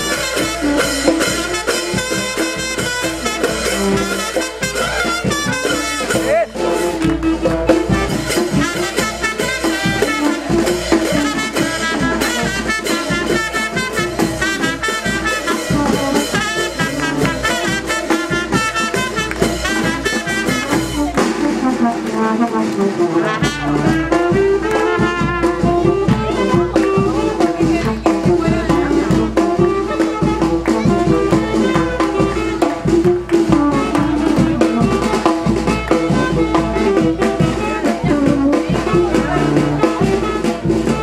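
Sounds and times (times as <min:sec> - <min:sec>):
brass band dance music: 0:00.0 - 0:41.0.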